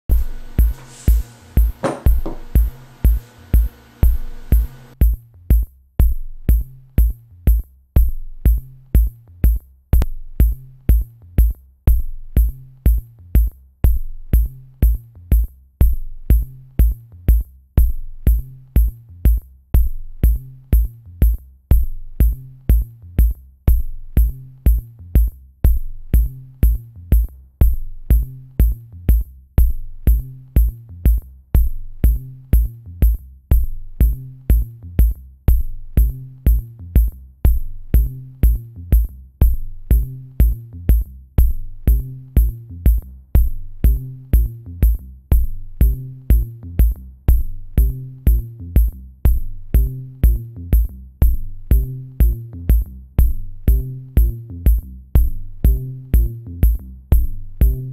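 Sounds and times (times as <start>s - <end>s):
electronic music with drum-machine beat: 0.1s - 57.9s.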